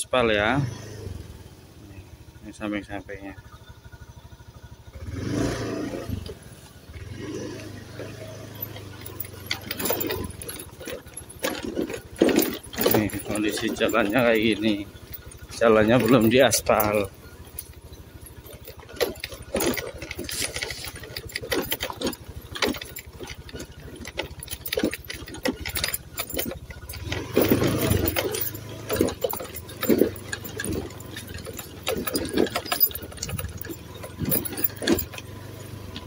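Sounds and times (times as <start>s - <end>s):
vehicle engine running: 0.0s - 36.0s
vehicle knocks and rattles: 6.0s - 36.0s.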